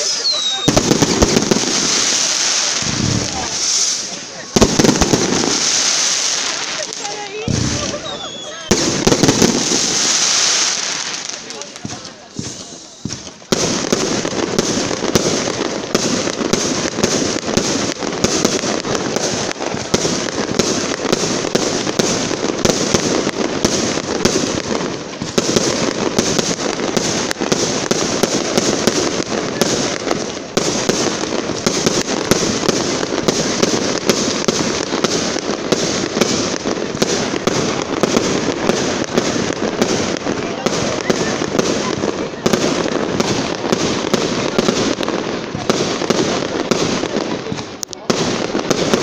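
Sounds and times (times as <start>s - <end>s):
fireworks barrage: 0.0s - 49.0s.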